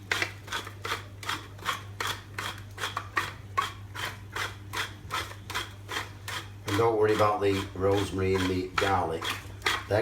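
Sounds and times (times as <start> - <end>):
pepper mill grinding: 0.0 - 10.0.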